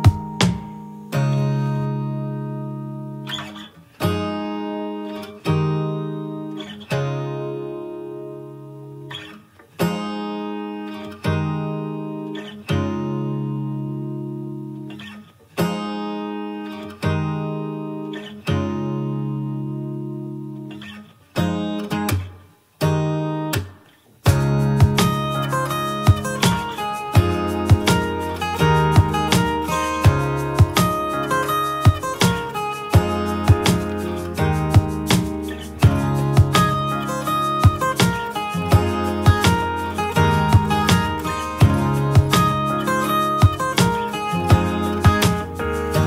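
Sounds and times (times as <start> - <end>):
acoustic guitar strumming chords: 0.0 - 46.0.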